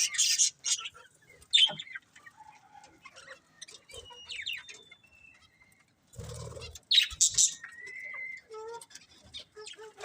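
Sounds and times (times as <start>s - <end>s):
budgerigars chirping: 0.0s - 2.4s, 3.0s - 10.0s.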